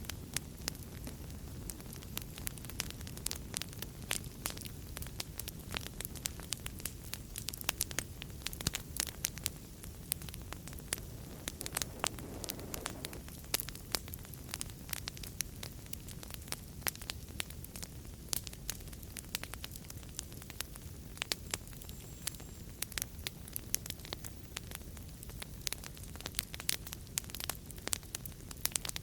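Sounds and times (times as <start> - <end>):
wood fire crackling and popping: 0.0 - 29.0
low rush of flame: 0.4 - 23.9.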